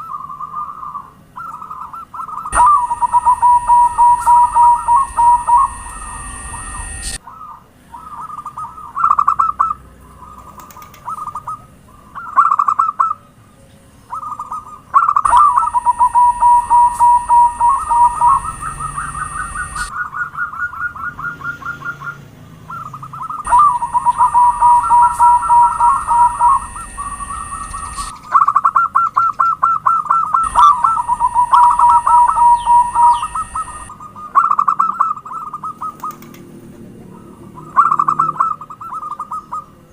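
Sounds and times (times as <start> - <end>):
dove cooing: 0.1 - 13.2, 14.1 - 21.5, 23.4 - 28.8, 30.1 - 36.3.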